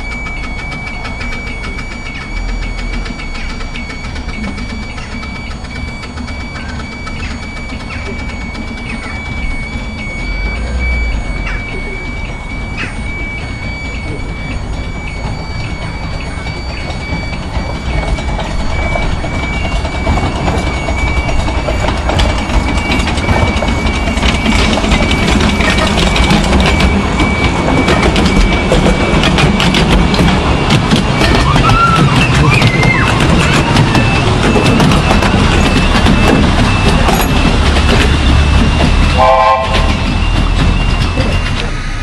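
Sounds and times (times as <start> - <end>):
miniature train high whine: 0.0 - 42.0
train wheels clicking on track: 0.0 - 42.0.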